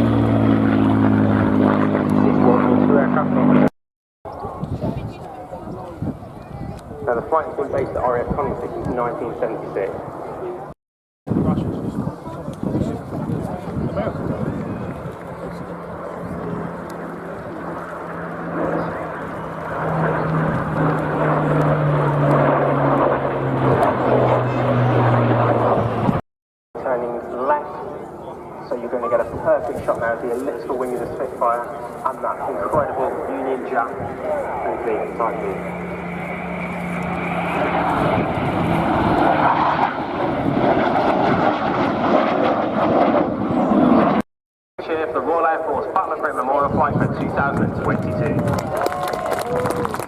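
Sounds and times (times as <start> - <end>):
aircraft engines passing: 0.0 - 3.7, 4.3 - 26.2, 26.8 - 44.2, 44.8 - 50.0
propeller plane flying past: 0.0 - 3.7, 4.3 - 10.8, 11.4 - 26.2, 26.8 - 44.2, 44.8 - 50.0.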